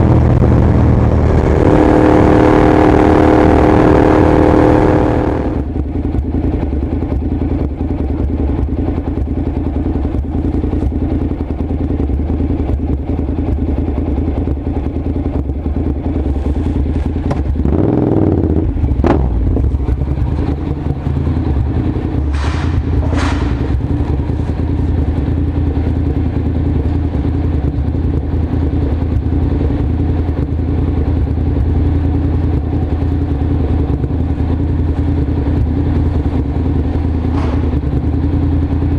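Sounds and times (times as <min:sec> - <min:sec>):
motorcycle engine idling: 0:05.4 - 0:38.9.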